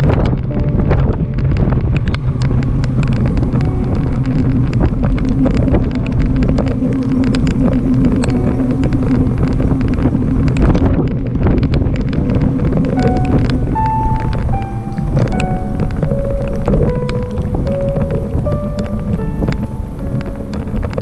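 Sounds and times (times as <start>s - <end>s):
music tones: 0.0s - 21.0s
vehicle rumble: 0.0s - 21.0s
wind buffeting microphone: 0.0s - 21.0s.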